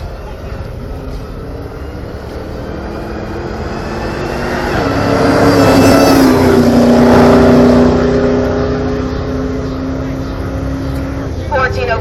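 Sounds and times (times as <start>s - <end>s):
car engine passing by: 0.6s - 11.6s.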